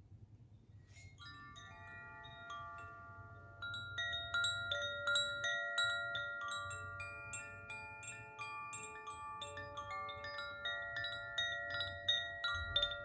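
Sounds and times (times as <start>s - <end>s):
wind chime ringing: 0.9s - 13.0s.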